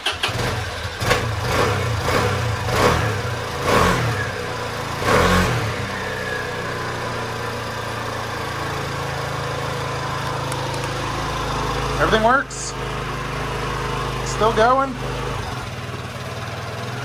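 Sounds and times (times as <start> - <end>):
scooter engine revving and idling: 0.0 - 17.0.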